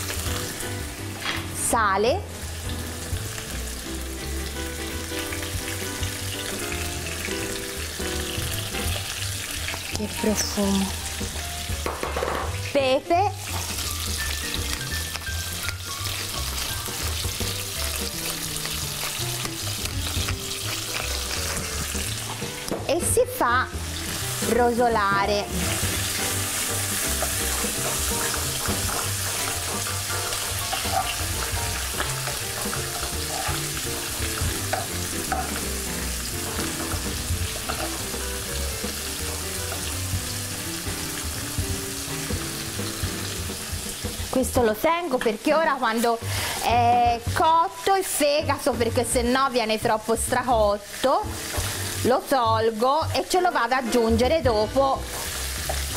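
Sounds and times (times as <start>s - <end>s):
meat sizzling in oil: 0.0s - 55.9s.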